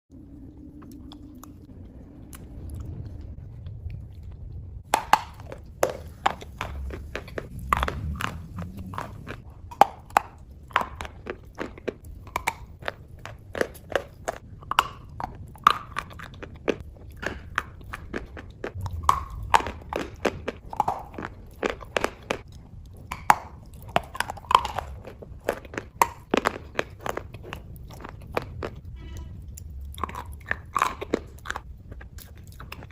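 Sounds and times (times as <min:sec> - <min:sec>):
handling rumble: 0:00.1 - 0:32.9.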